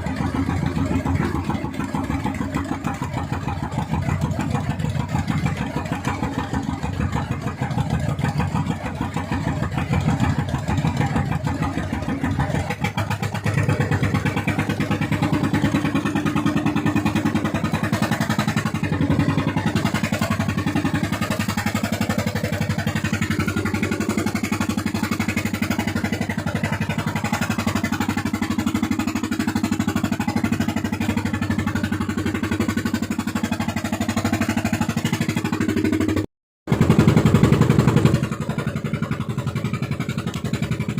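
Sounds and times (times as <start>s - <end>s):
boat engine running hard: 0.0s - 40.9s.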